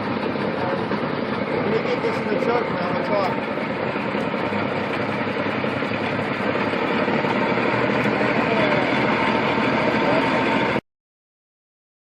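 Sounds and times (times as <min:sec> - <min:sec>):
truck engine idling: 0:00.0 - 0:10.8.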